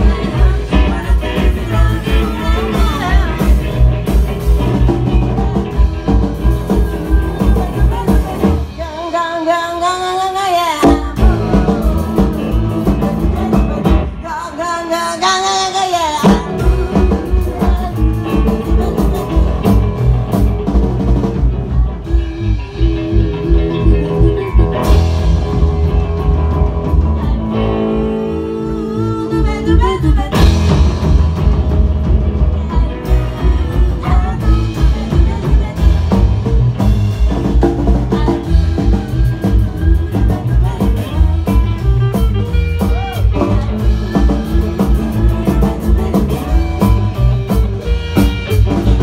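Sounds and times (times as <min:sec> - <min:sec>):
rock band playing: 0:00.0 - 0:49.0
woman singing: 0:00.0 - 0:49.0.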